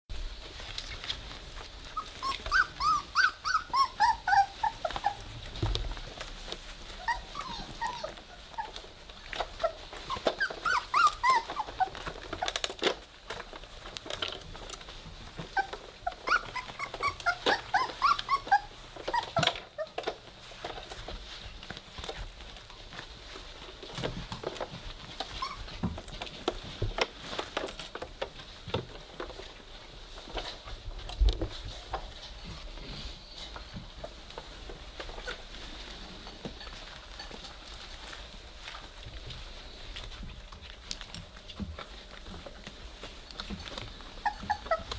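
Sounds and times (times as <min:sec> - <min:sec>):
puppies whimpering and squeaking: 0:00.5 - 0:28.7, 0:30.2 - 0:44.9.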